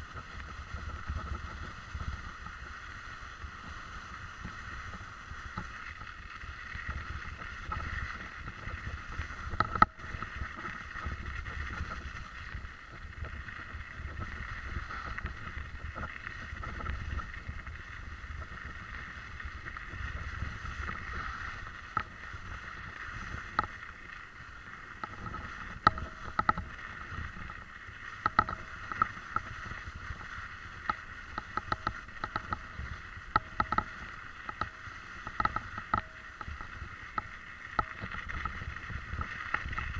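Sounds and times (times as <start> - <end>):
sharp clicks and ticks: 4.5 - 21.1, 21.8 - 39.9.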